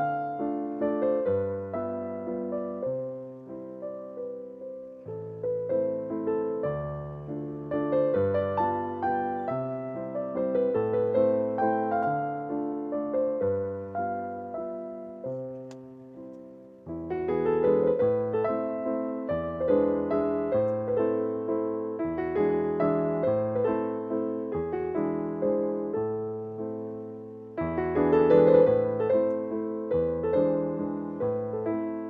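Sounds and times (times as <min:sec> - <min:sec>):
gentle piano melody: 0:00.0 - 0:32.0.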